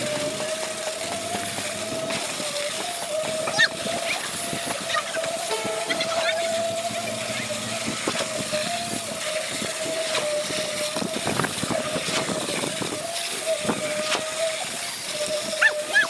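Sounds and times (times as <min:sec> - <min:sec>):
pump mechanical whine: 0:00.0 - 0:16.0
wet concrete pouring from hose: 0:00.0 - 0:16.0.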